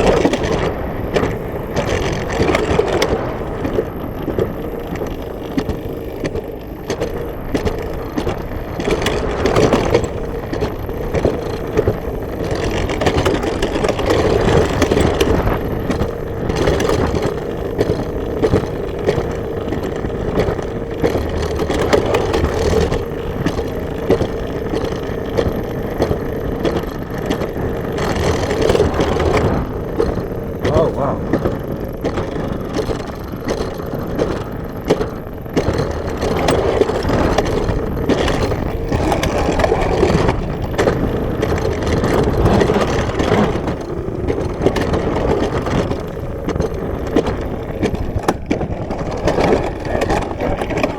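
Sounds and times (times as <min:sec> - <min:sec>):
wheels rolling on steel rail: 0:00.0 - 0:50.9
wind: 0:00.0 - 0:50.9.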